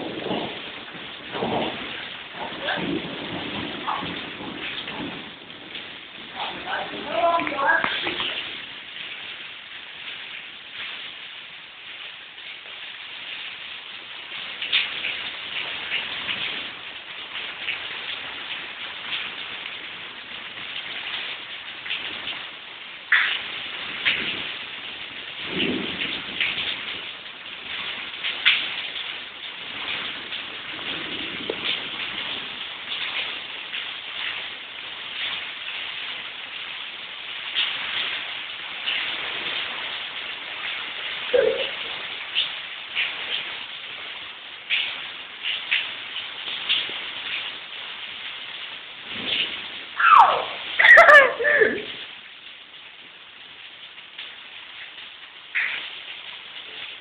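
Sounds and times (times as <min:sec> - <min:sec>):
rain falling: 0:00.0 - 0:57.0
raindrops ticking on a surface: 0:00.0 - 0:57.0.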